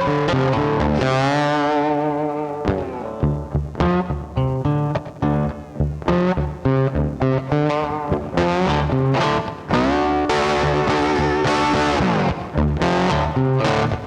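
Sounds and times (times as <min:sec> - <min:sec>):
distorted electric guitar runs: 0:00.0 - 0:14.0
rock music with bass and beat: 0:00.0 - 0:14.0.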